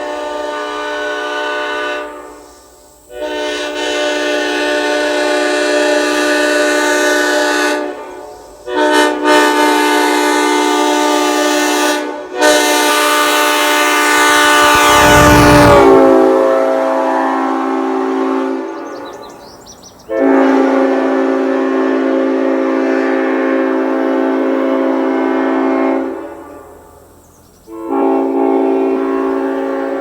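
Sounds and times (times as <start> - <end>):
train horn blasts: 0.0 - 18.8, 20.1 - 27.0, 27.7 - 30.0.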